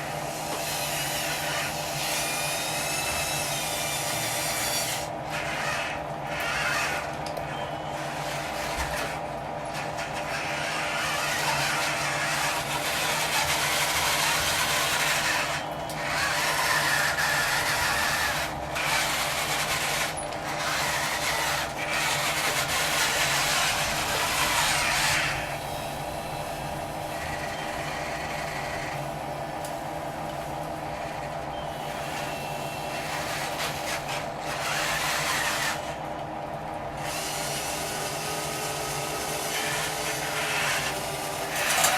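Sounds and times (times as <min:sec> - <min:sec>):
model machine motor whine: 0:00.0 - 0:29.0, 0:31.7 - 0:36.0, 0:37.0 - 0:41.9.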